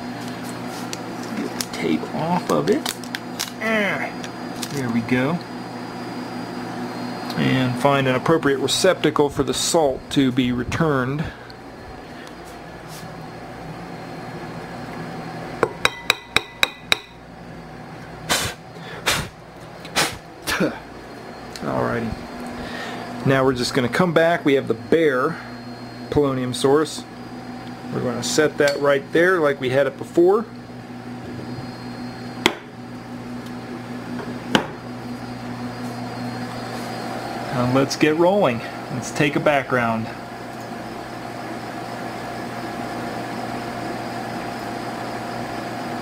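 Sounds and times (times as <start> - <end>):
steady machine hum: 0.0 - 46.0.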